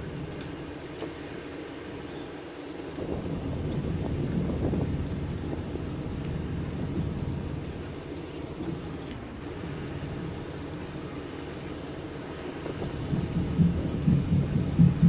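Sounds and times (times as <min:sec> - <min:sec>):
wind buffeting microphone: 0:02.8 - 0:15.0.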